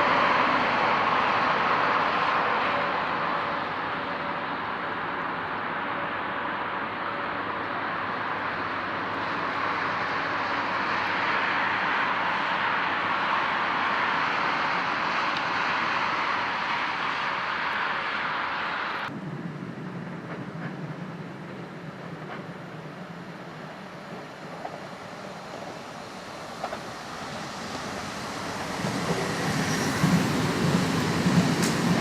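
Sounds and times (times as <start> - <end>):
low train hum: 0.0 - 32.0
train rolling on rails: 0.0 - 32.0.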